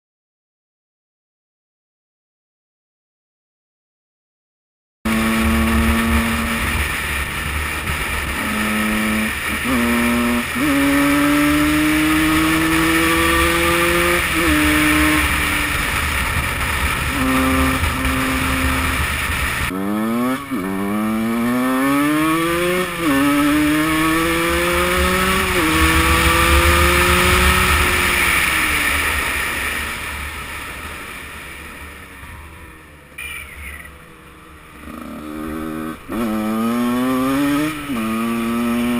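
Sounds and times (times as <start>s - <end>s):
motorcycle engine revving and upshifting: 5.1s - 30.6s, 33.2s - 38.9s.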